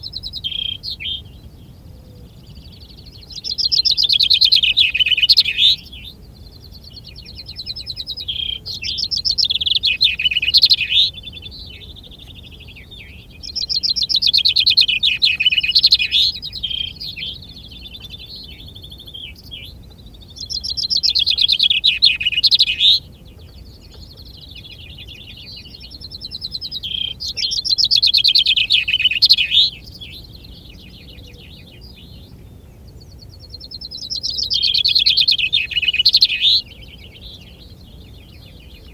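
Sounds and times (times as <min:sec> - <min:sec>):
chaffinch song: 0:00.0 - 0:38.9
faint finch trills: 0:00.0 - 0:38.9.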